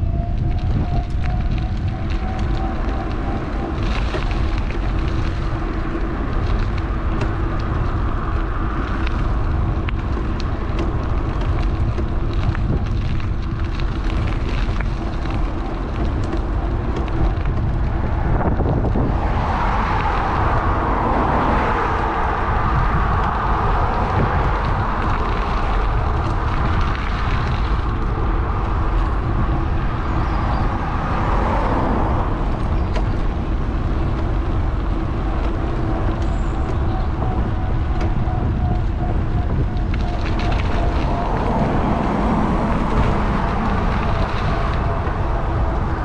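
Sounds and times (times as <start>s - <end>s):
road traffic: 0.0s - 46.0s
wind buffeting microphone: 0.0s - 46.0s.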